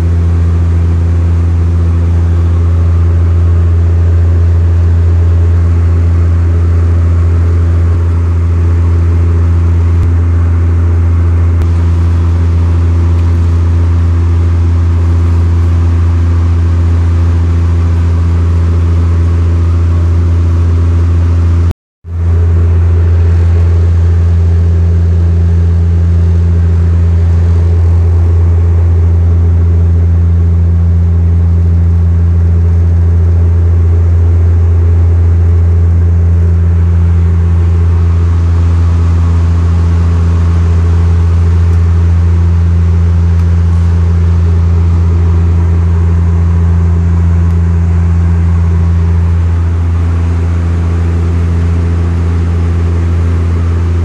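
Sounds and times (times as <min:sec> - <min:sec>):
turboprop cabin drone: 0:00.0 - 0:54.0.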